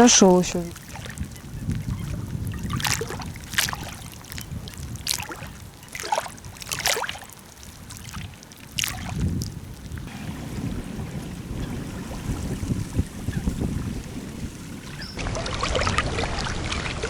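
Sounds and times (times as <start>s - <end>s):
wind on microphone: 0.0s - 7.0s, 7.7s - 17.0s
water splashing at bank: 0.0s - 17.0s.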